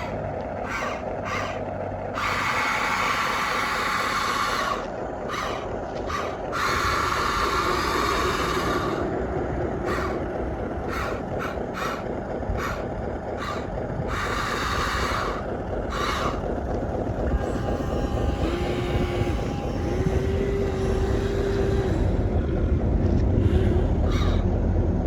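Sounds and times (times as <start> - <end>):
toy electric motors whirring: 0.0 - 22.4, 23.0 - 24.5
low rumble: 0.0 - 25.0
steady hum: 0.0 - 25.0.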